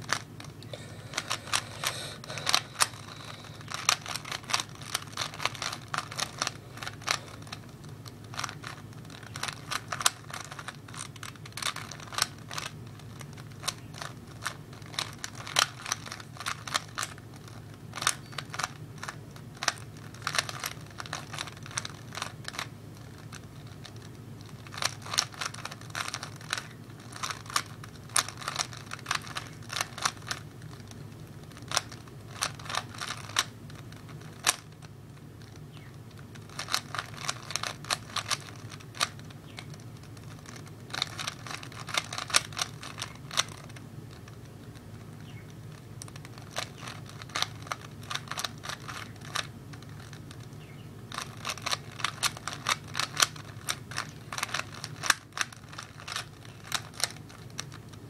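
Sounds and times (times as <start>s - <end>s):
puzzle cube plastic clicking: 0.0s - 58.0s
steady low hum: 0.0s - 58.0s.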